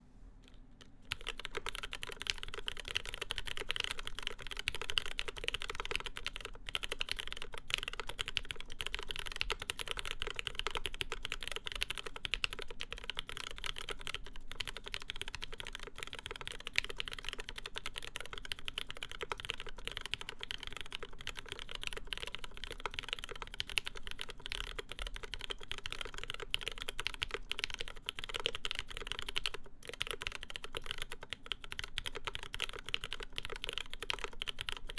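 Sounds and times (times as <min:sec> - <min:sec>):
fast mechanical keyboard typing: 0:00.8 - 0:34.9.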